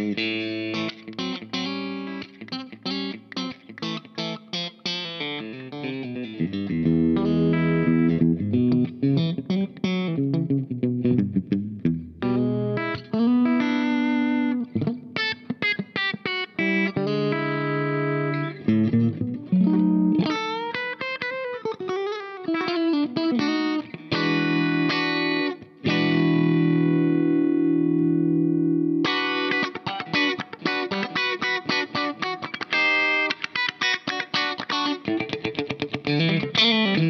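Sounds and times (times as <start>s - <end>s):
clean electric guitar playing: 0.0s - 37.0s.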